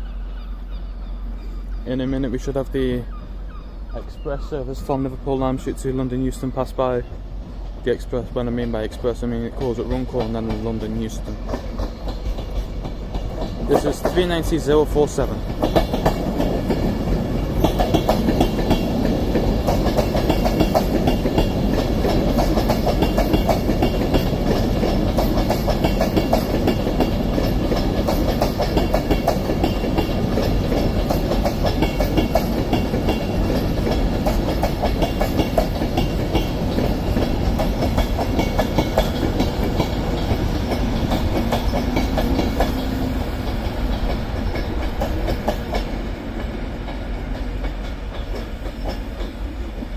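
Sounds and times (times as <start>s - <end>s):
train wheels clattering over rail joints: 8.5s - 49.4s.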